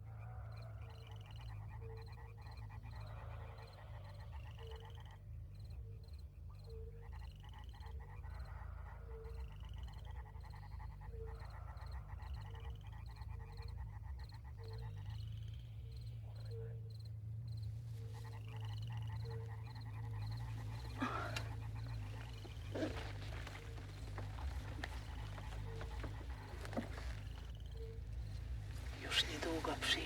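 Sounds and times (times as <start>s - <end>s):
frog trilling and chirps: 0.0s - 30.0s
frogs croaking: 0.0s - 30.0s
steady low hum: 0.0s - 30.0s.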